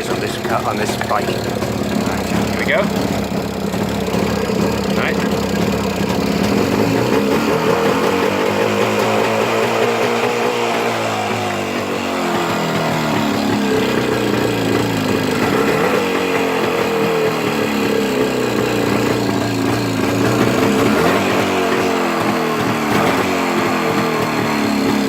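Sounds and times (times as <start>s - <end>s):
two-stroke motorcycle engine running: 0.0s - 25.0s.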